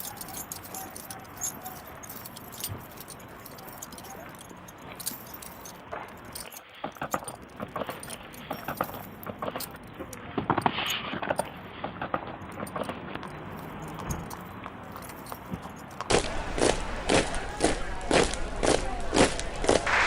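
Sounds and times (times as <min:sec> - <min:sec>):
light clinks and jangles: 0:00.0 - 0:19.9.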